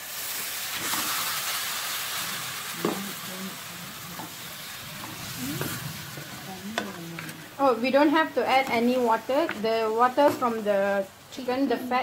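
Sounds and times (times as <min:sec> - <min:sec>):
chicken sizzling in hot oil: 0:00.0 - 0:11.7.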